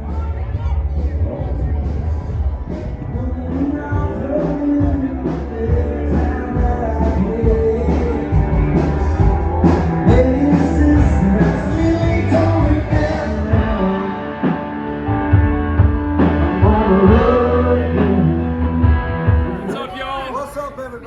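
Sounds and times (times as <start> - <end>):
rock and roll music with singing: 0.0 - 21.0.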